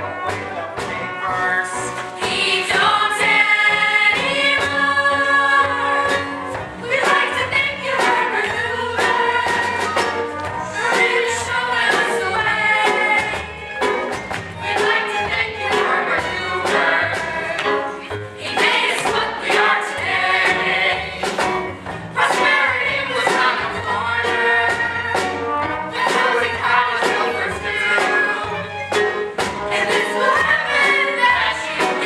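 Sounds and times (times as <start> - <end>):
instrumental accompaniment with beat: 0.0 - 32.0
chorus singing: 1.2 - 32.0.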